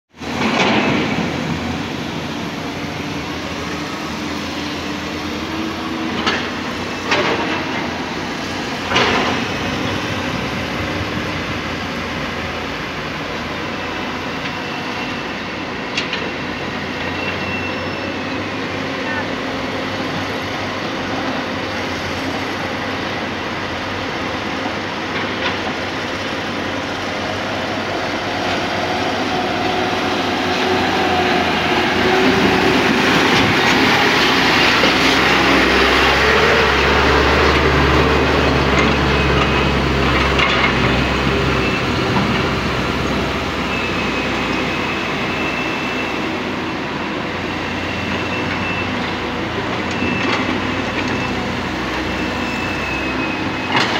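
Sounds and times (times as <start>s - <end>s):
diesel truck engines running: 0.2s - 53.9s.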